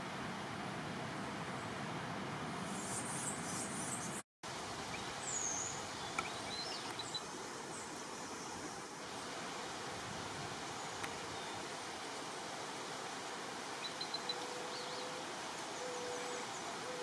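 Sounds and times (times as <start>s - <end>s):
forest ambience hiss: 0.0s - 17.0s.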